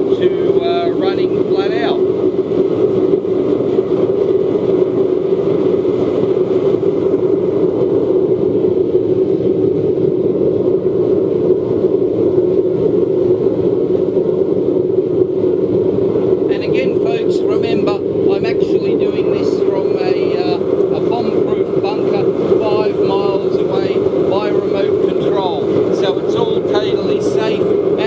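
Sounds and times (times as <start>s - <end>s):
blower hum: 0.0s - 28.0s
rush of flame and air: 0.0s - 28.0s.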